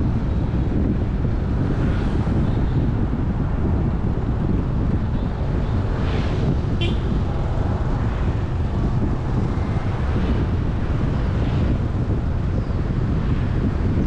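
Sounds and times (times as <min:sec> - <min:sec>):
low rumble of road traffic: 0:00.0 - 0:14.0
wind buffeting microphone: 0:00.0 - 0:14.0.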